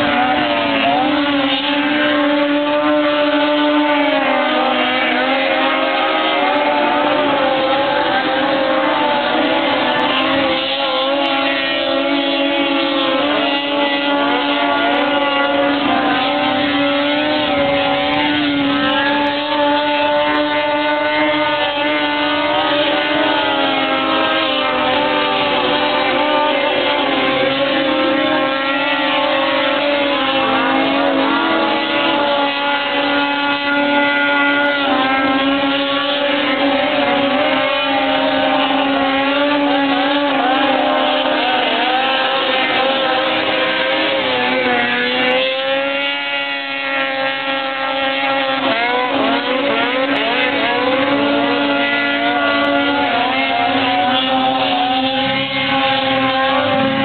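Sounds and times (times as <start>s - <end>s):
snowmobile engines at high revs: 0.0s - 57.0s.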